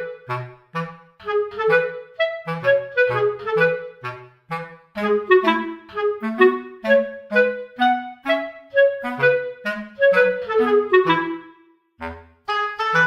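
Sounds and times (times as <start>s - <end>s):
bouncy background music: 0.0s - 13.0s.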